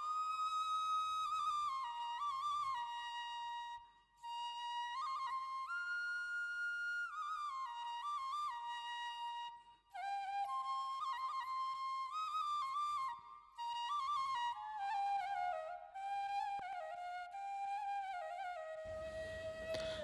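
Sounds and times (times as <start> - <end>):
solo flute melody: 0.0 - 20.0.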